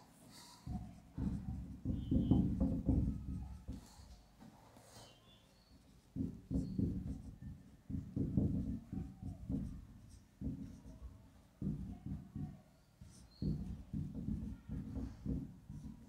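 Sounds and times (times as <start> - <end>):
marker writing on a whiteboard: 0.0 - 16.0.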